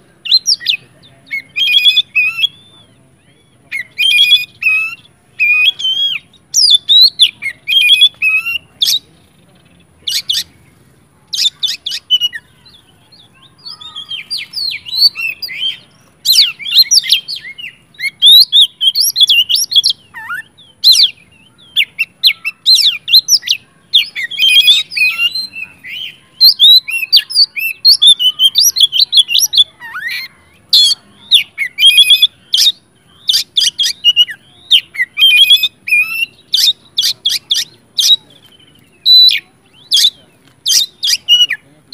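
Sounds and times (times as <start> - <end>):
bird singing whistles and chirps: 0.2 - 9.1, 11.3 - 41.9.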